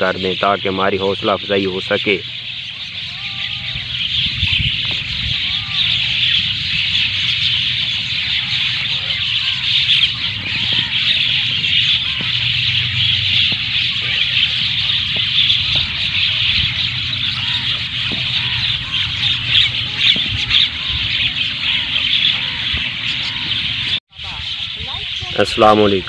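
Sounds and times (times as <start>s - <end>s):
flock of birds chattering: 0.0s - 26.0s.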